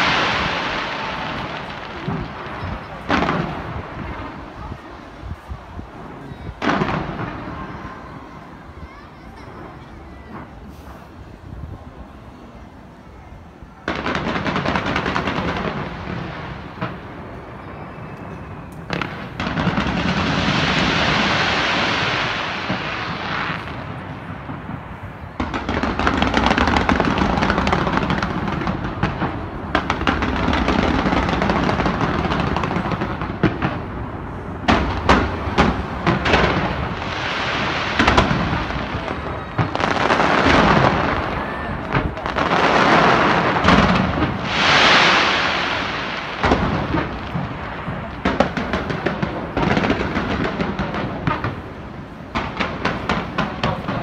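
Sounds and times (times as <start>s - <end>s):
sharp firework bangs: 0.0s - 5.5s, 6.3s - 8.2s, 13.8s - 54.0s
fireworks barrage: 0.0s - 12.5s, 13.7s - 54.0s.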